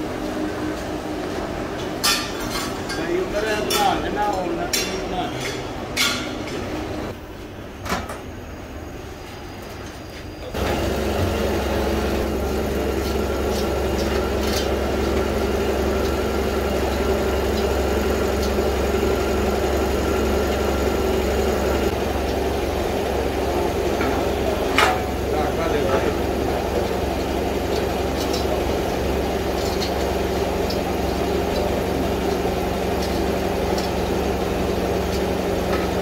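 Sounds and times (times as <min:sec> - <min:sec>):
workshop machinery humming: 0:00.0 - 0:36.0.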